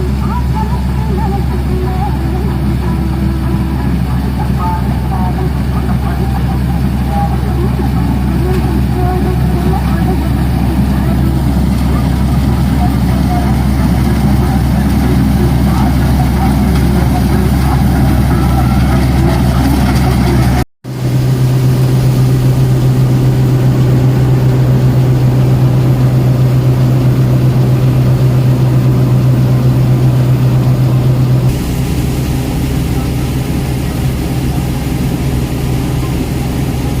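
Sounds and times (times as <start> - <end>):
harvesting machine engine humming: 0.0 - 37.0.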